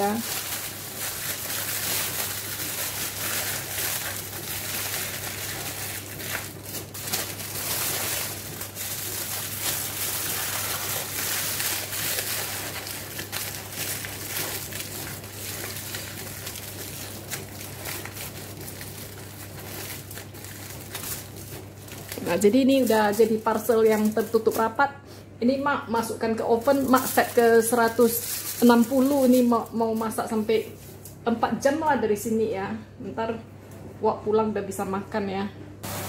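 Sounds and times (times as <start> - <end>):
aluminium foil crinkling: 0.0 - 24.8, 26.0 - 31.2.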